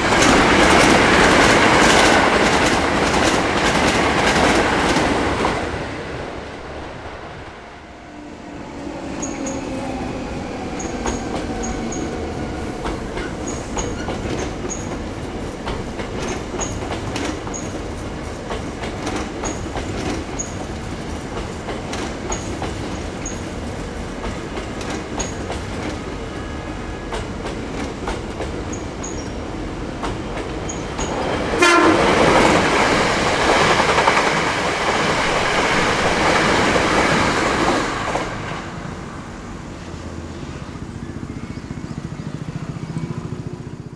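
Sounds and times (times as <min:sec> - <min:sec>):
train wheels clattering on rails: 0:00.0 - 0:07.7, 0:08.7 - 0:43.9.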